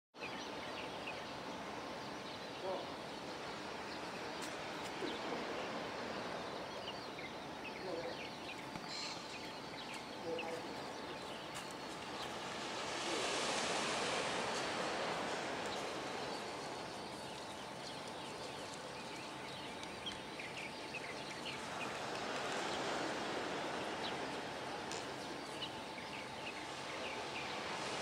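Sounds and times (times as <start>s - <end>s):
background noise wash: 0.2s - 28.0s.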